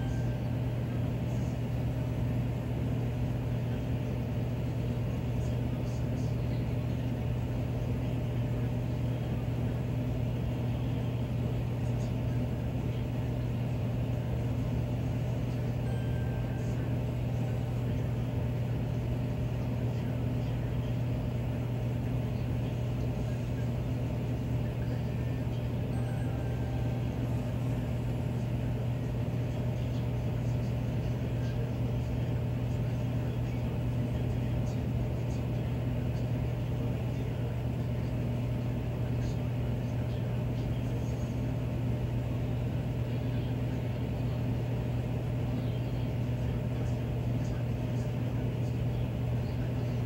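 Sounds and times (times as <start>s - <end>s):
furnace humming: 0.0s - 50.0s.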